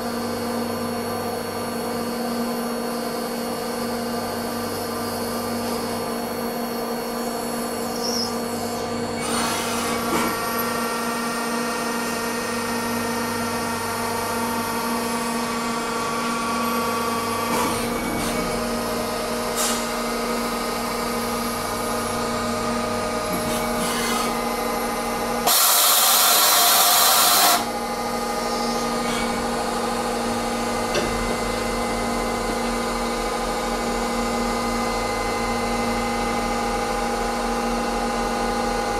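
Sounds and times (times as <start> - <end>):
lathe whine: 0.0 - 38.9.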